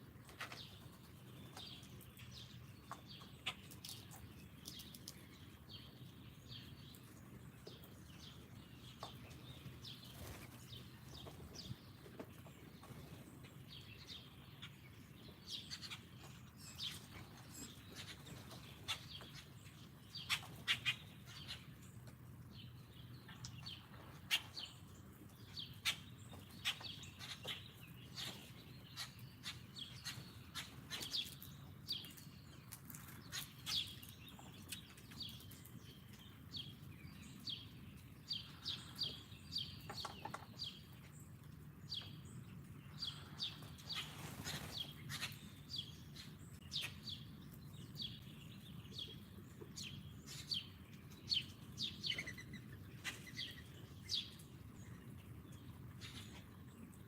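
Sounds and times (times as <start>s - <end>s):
small songbirds chirping: 0.0s - 57.0s.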